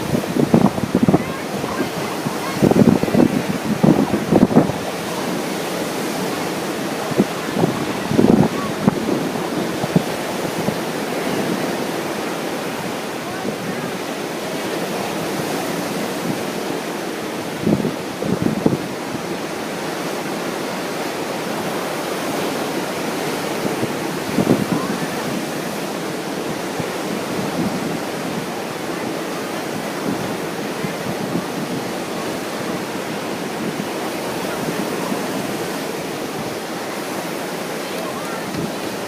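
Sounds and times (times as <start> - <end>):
ocean surf washing in: 0.0 - 39.0
strong wind: 0.0 - 39.0
wind buffeting microphone: 0.0 - 39.0.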